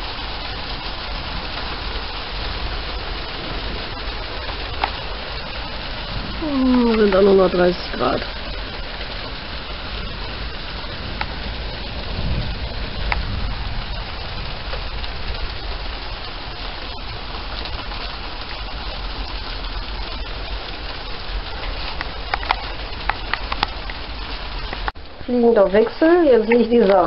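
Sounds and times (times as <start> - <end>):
rain on paved patio: 0.0 - 27.0
water drips: 0.0 - 27.0.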